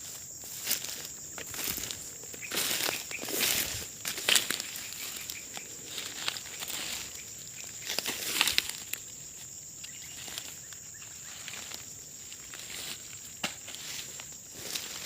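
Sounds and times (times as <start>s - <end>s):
high-pitched insect drone: 0.0s - 15.0s
rustling through dry undergrowth: 0.0s - 15.0s.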